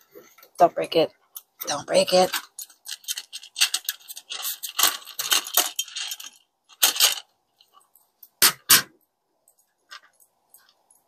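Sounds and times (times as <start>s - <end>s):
plastic parts rattling and clinking: 1.4s - 8.8s, 9.5s - 11.0s.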